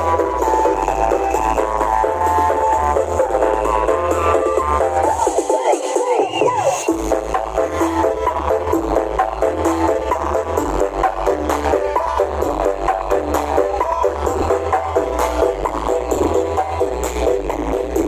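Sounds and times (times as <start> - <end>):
pulsing sub-bass: 0.0 - 5.8, 6.4 - 18.0
loud music over sound system: 0.0 - 18.0.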